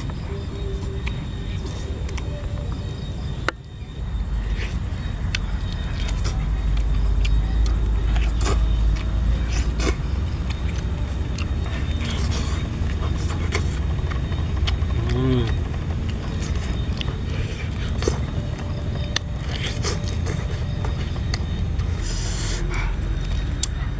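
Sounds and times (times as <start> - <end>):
person chewing and smacking: 0.0 - 3.8, 4.5 - 23.9
steady low rumble: 0.0 - 23.9.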